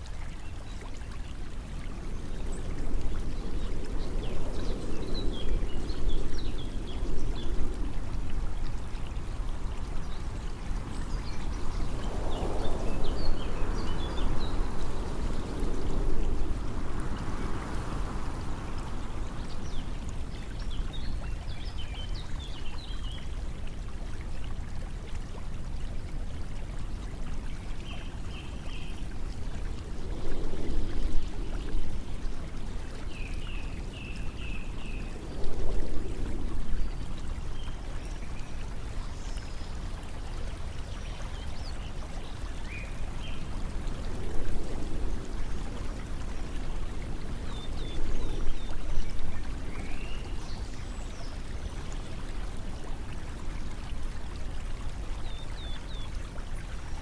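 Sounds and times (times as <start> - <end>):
flowing stream water: 0.0 - 57.0.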